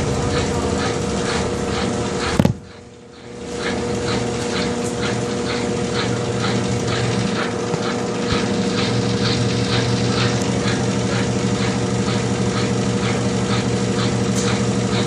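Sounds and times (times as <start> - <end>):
rhythmic swish: 0.0 - 15.0
washing machine spin hum: 0.0 - 15.0.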